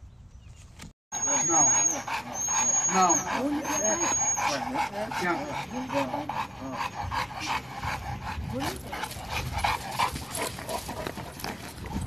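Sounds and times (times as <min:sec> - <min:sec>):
dog panting: 0:01.2 - 0:12.0.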